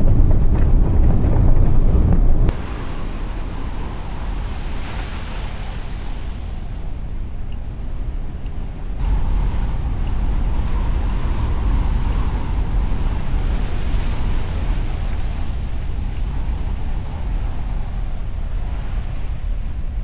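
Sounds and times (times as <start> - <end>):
tyre and road rumble: 0.0 - 20.0
wash of noise: 2.5 - 20.0.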